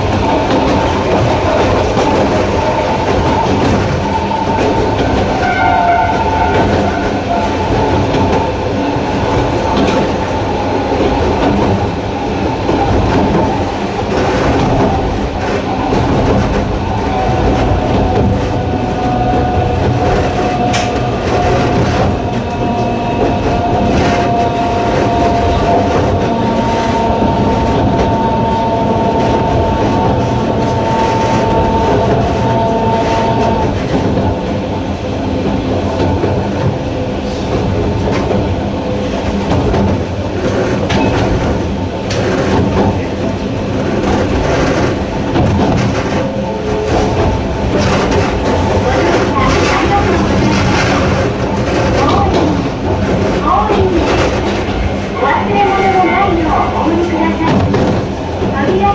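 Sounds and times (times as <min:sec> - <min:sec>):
train wheels clattering over rails: 0:00.0 - 0:58.9.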